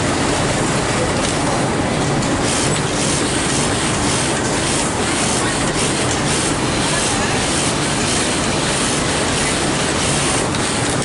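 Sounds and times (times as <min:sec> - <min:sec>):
sewing machines clattering: 0:00.0 - 0:11.0.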